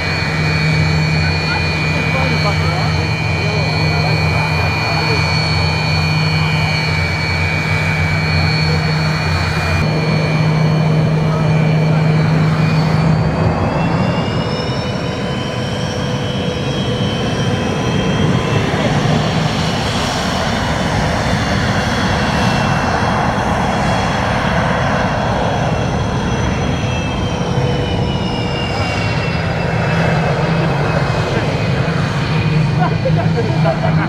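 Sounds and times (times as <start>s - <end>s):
jet engine rumble and whine: 0.0s - 34.0s.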